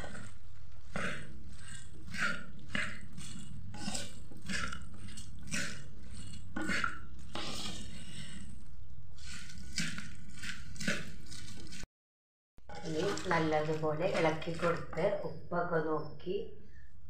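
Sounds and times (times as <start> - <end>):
spoon stirring wet mixture in pot: 0.0 - 11.8, 12.6 - 15.5.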